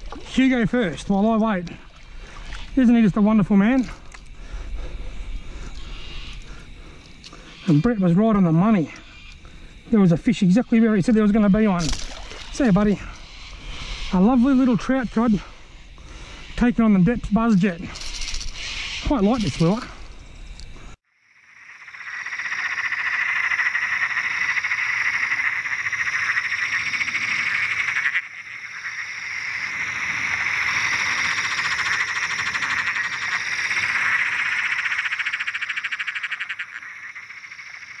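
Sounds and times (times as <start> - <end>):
chorus of frogs trilling: 0.0 - 38.0.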